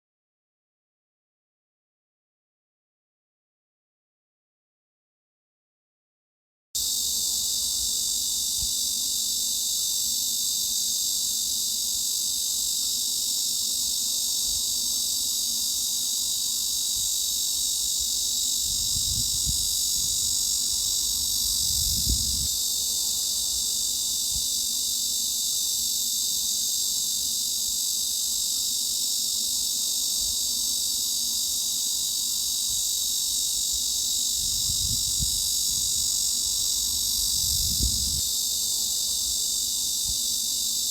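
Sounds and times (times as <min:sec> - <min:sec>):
cicadas buzzing: 0:06.8 - 0:40.9.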